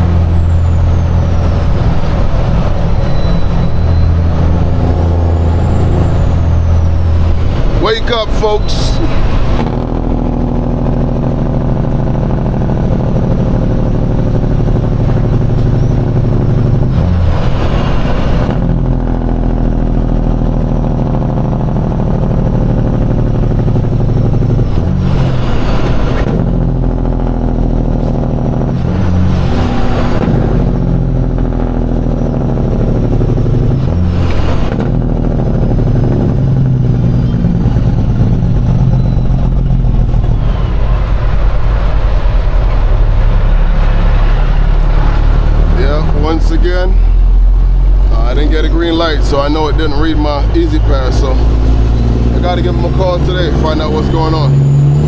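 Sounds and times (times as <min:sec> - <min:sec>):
diesel truck engine shifting gears: 0:00.0 - 0:55.0.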